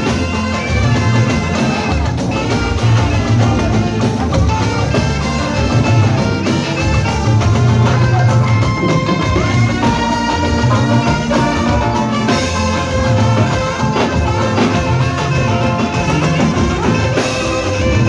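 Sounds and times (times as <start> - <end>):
heavy bass and drums: 0.0 - 18.0
live church band music: 0.0 - 18.0.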